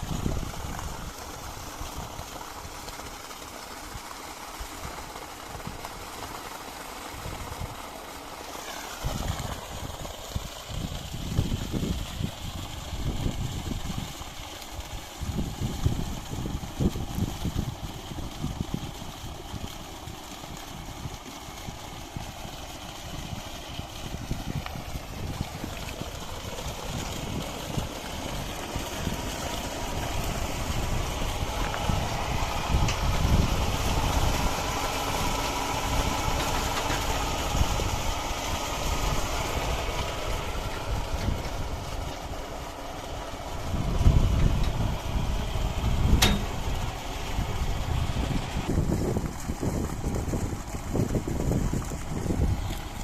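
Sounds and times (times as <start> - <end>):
water gushing: 0.0 - 53.0
water pump low rumble: 0.0 - 53.0.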